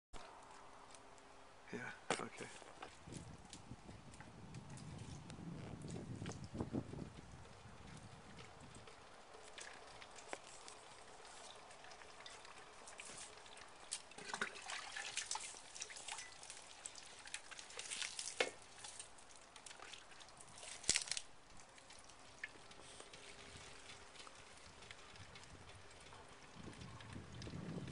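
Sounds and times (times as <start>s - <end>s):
water dripping and trickling: 2.6s - 27.9s.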